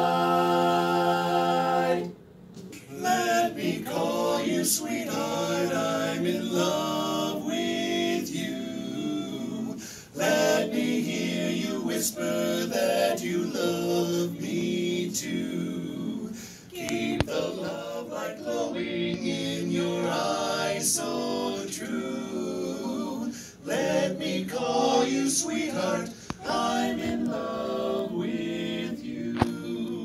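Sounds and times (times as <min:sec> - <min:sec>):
men singing a cappella in harmony: 0:00.0 - 0:02.2, 0:02.8 - 0:30.0.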